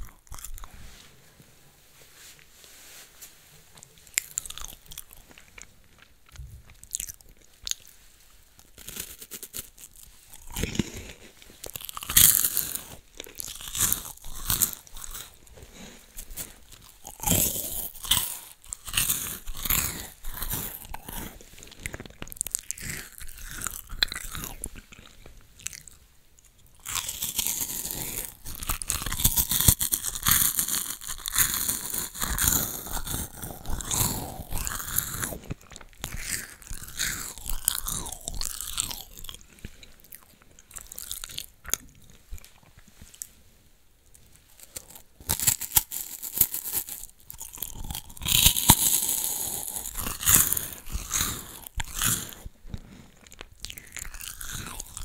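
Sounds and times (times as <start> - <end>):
crunching and chewing wafer biscuit: 0.0 - 1.2, 3.7 - 43.4, 44.0 - 55.0.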